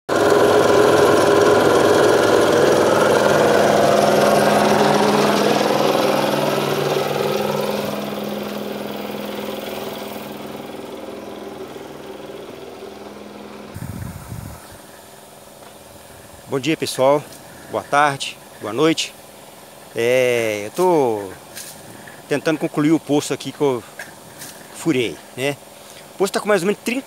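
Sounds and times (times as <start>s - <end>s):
air compressor humming: 0.1s - 27.0s.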